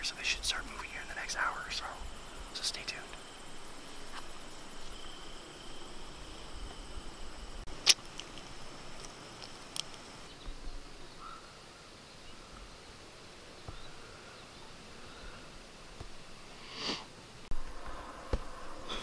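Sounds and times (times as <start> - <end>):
faint insect trill: 0.0 - 16.7, 17.5 - 19.0.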